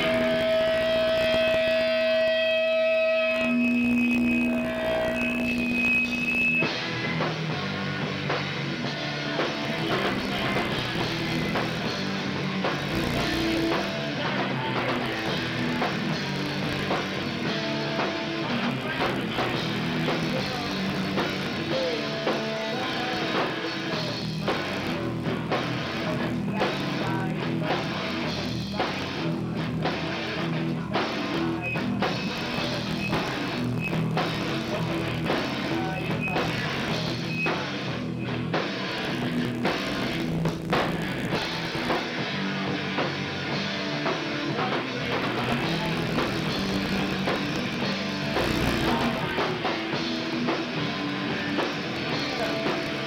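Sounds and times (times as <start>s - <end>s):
punk band playing live: 0.0s - 53.0s.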